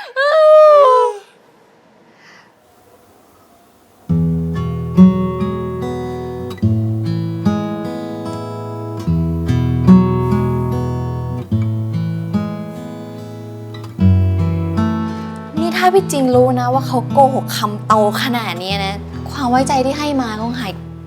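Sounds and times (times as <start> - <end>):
acoustic guitar strumming chords: 4.0 - 21.0.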